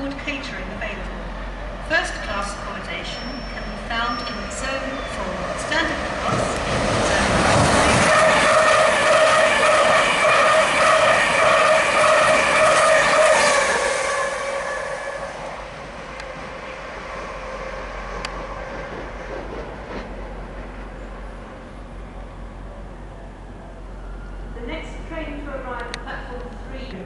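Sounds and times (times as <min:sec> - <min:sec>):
train running past: 0:00.0 - 0:27.0.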